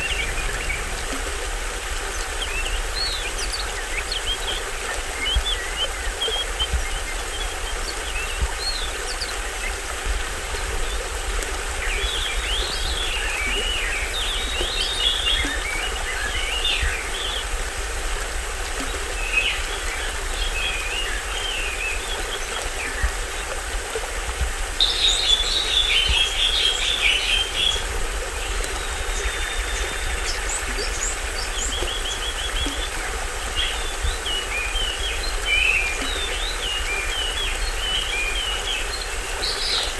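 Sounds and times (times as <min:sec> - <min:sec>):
birds chirping: 0:00.0 - 0:17.7, 0:24.6 - 0:39.9
small waterfall splashing: 0:00.0 - 0:39.9.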